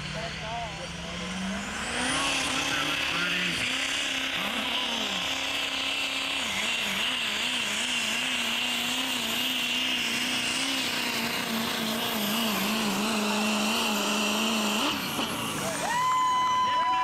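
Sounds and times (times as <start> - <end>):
truck engine revving under load: 0.0 - 16.0.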